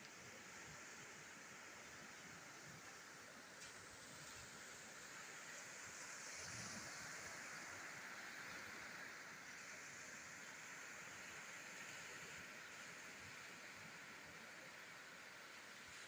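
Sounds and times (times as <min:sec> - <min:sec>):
faint sea surf on shore: 0:00.0 - 0:16.0.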